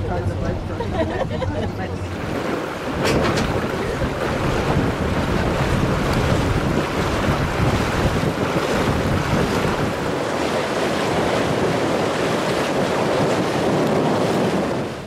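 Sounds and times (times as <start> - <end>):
water washing along boat hull: 0.0 - 15.0
wind buffeting microphone: 0.0 - 15.0.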